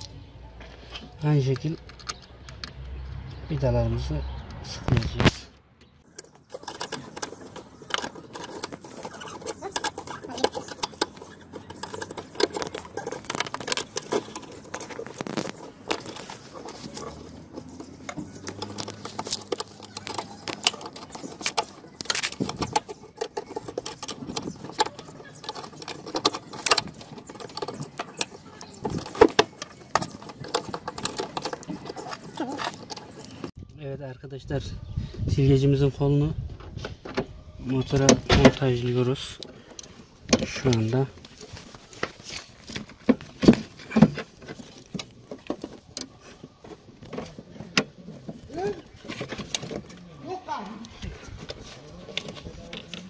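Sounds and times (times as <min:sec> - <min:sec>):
clicks and rattles of car parts: 0:00.9 - 0:03.0, 0:04.9 - 0:33.6, 0:36.5 - 0:50.1, 0:50.7 - 0:53.0.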